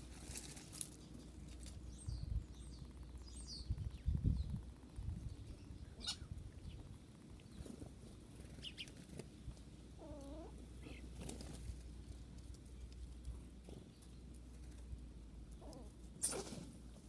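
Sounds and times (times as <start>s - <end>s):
birds chirping: 0.8s - 16.1s.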